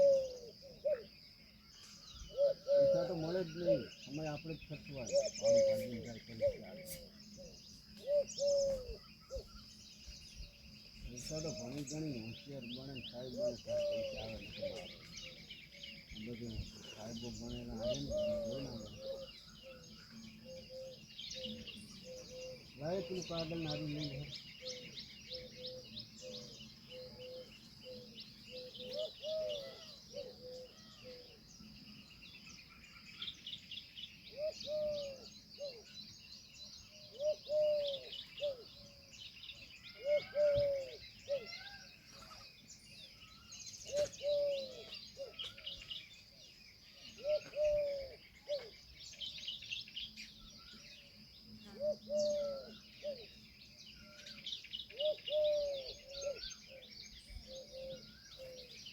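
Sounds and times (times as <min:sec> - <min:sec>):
low rising and falling bird call: 0:00.0 - 0:01.1, 0:01.7 - 0:58.9
small birds chirping: 0:00.0 - 0:58.9.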